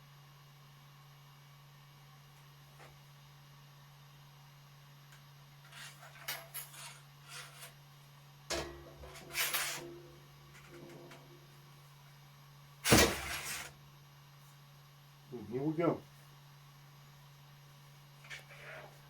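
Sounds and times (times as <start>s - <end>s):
steady low hum: 0.1s - 19.0s.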